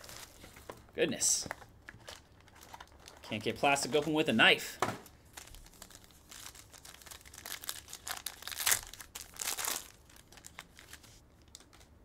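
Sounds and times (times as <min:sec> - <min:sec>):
plastic wrapper crinkling and tearing: 0:00.0 - 0:00.8, 0:01.5 - 0:04.2, 0:05.2 - 0:11.9.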